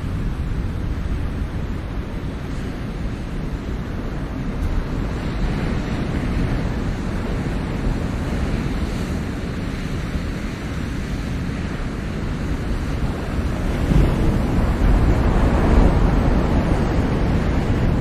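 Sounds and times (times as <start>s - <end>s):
waves breaking on shore: 0.0s - 18.0s
wind on microphone: 0.0s - 18.0s.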